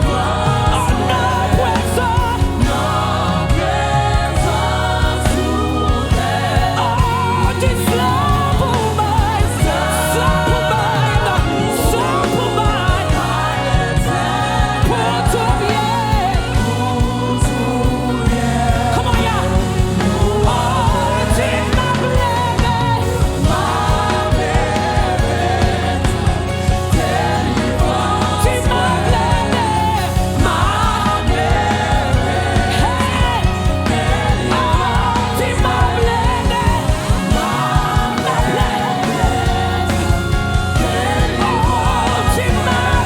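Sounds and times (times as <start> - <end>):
backing voices singing: 0.0 - 43.0
band with bass and drums: 0.0 - 43.0
lead singer singing: 0.0 - 43.0.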